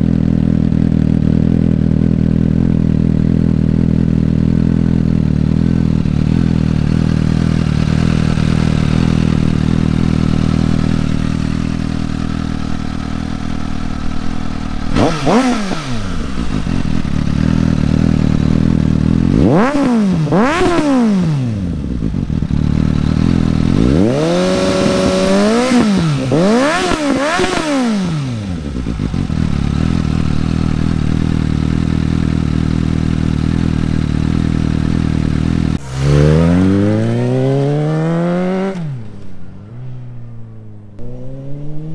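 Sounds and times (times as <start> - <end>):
motorcycle engine idling: 0.0 - 41.0
engine revving throttle blips: 4.8 - 41.9.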